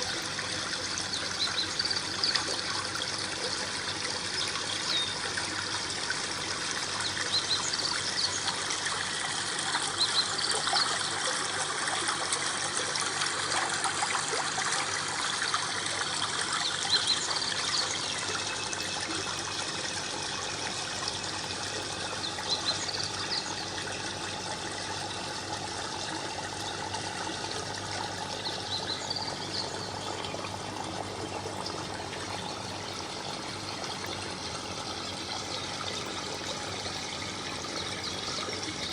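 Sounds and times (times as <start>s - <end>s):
higher water plinks: 0.0s - 38.9s
small waterfall trickling and splashing: 0.0s - 38.9s.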